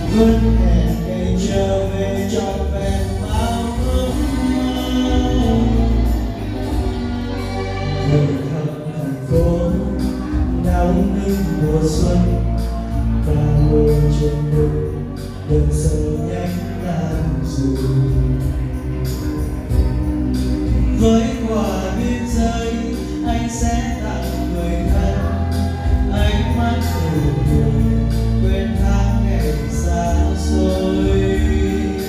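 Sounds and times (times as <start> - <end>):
accompanying music with bass and beat: 0.0 - 32.0
man singing into a microphone: 0.0 - 32.0.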